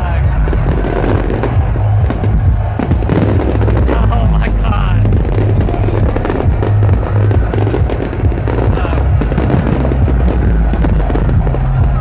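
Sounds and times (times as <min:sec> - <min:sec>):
electronic dance music: 0:00.0 - 0:12.0
fireworks crackling and popping: 0:00.0 - 0:12.0.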